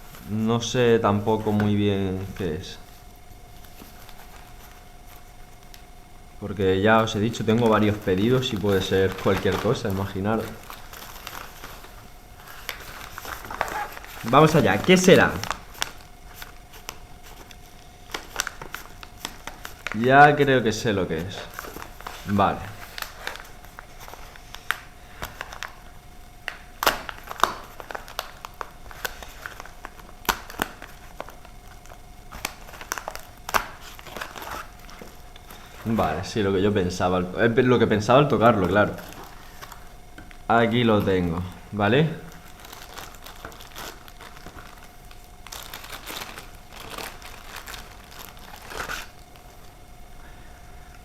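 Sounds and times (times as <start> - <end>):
packaging crinkling: 0.0 - 6.0, 6.8 - 50.0.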